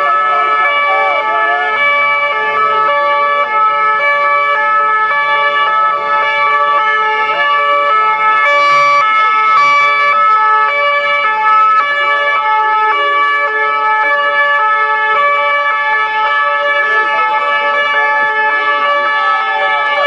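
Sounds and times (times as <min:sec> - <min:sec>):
two-tone police sirens: 0:00.0 - 0:20.0.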